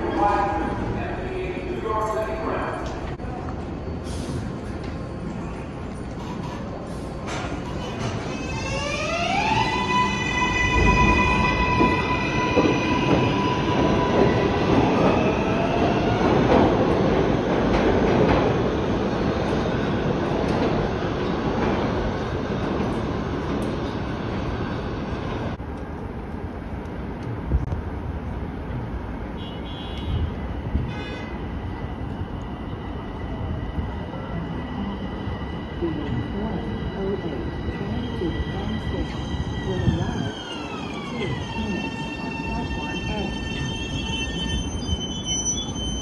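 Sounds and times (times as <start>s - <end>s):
train rumble on rails: 0.0s - 46.0s.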